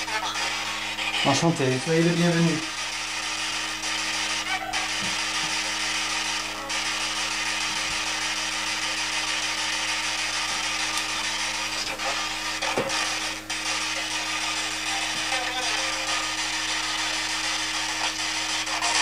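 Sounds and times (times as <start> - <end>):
radio static hiss: 0.0 - 19.0
steady low hum: 0.0 - 19.0.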